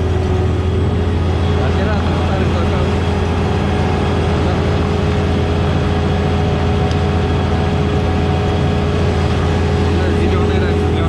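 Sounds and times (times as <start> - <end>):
heavy diesel engine droning: 0.0 - 11.0
steady machine whine: 0.0 - 11.0.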